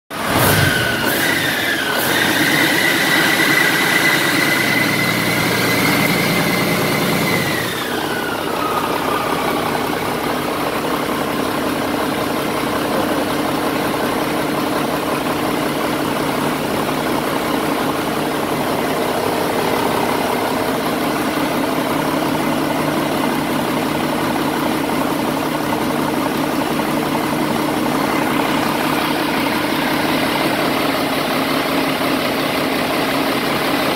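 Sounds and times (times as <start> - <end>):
diesel engine idling: 0.2 - 33.9
diesel engine whining: 0.2 - 33.9.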